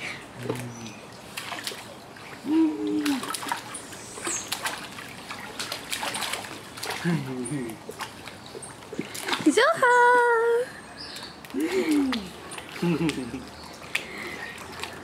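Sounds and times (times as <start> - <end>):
pool water splashing and lapping: 0.0 - 15.0.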